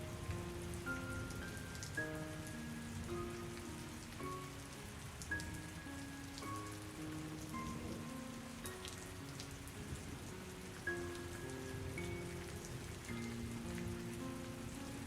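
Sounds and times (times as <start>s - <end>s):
slow soft melodic music: 0.0s - 15.0s
steady rain falling: 0.0s - 15.0s.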